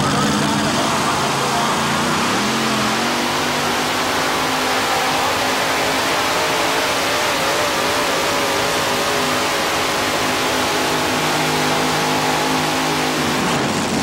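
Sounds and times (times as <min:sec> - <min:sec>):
high-revving tractor engine: 0:00.0 - 0:14.0.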